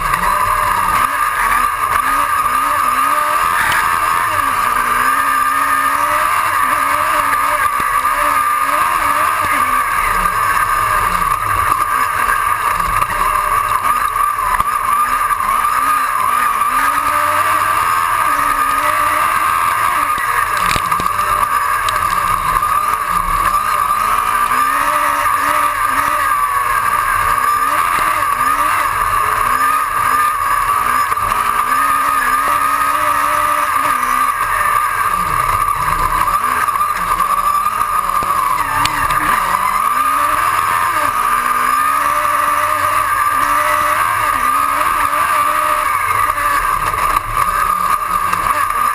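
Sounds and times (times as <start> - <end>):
race car engine revving: 0.0 - 48.9
steady high whine: 0.0 - 48.9.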